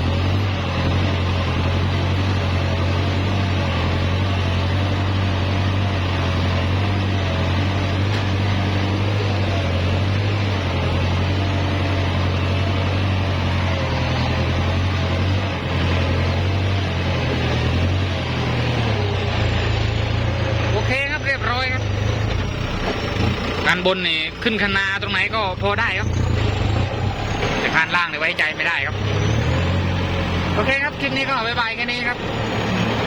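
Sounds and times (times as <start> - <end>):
tractor diesel engine drone: 0.0 - 33.0.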